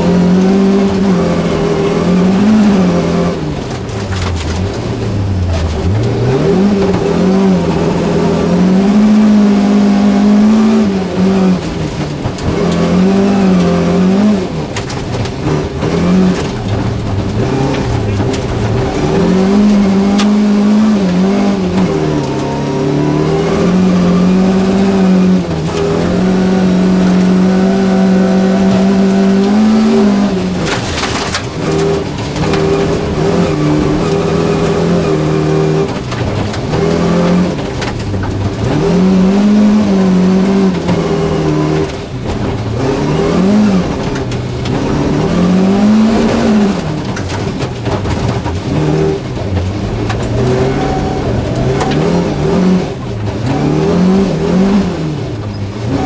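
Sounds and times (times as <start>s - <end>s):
gravel rattling under car: 0.0s - 56.0s
rally car engine revving: 0.0s - 56.0s.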